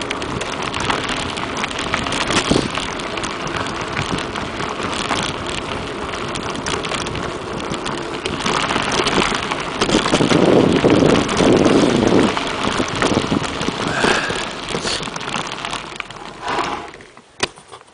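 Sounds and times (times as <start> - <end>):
wind buffeting microphone: 0.0 - 16.0
bike tyres crunching on dirt: 0.0 - 17.9.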